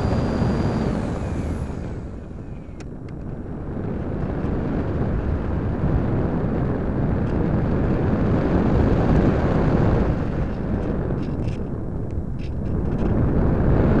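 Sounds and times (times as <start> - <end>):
airflow buffeting microphone: 0.0 - 14.0.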